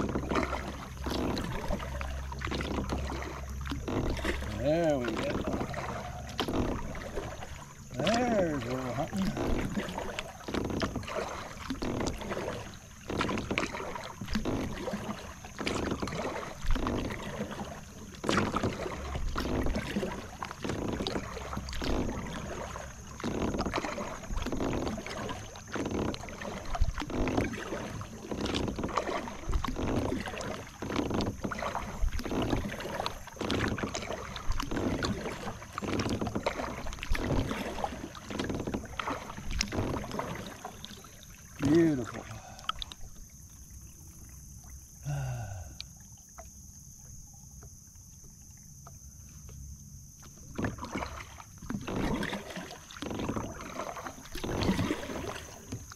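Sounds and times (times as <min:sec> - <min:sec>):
water splashing and dripping: 0:00.0 - 0:46.6, 0:50.2 - 0:55.9
kayak paddle strokes in water: 0:00.0 - 0:55.9.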